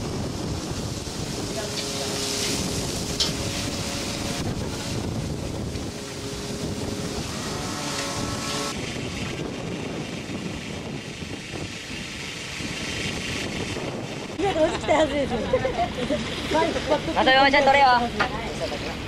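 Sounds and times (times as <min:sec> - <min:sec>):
water spraying from a hose: 0:00.0 - 0:18.7
boat engine running: 0:00.0 - 0:19.0
sea wash: 0:00.0 - 0:19.0
wind: 0:00.0 - 0:19.0.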